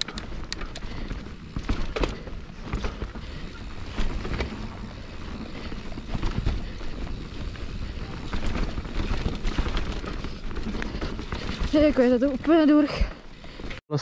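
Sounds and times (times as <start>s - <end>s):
bike rattling: 0.0s - 13.8s
bike tyres rushing through mud: 0.8s - 13.8s.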